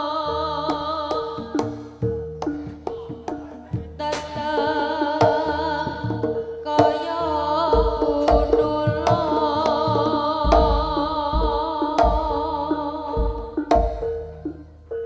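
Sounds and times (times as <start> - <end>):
drum strokes: 0.7 - 15.0.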